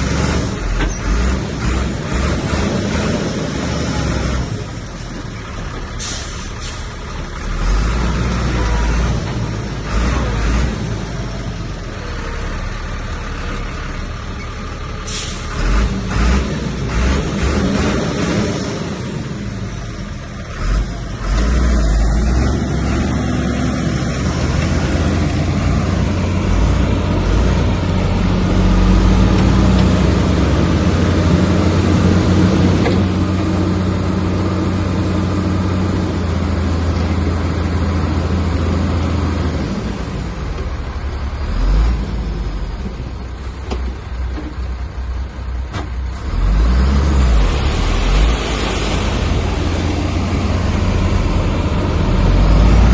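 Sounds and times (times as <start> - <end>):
heavy diesel engine under load: 0.0 - 52.9.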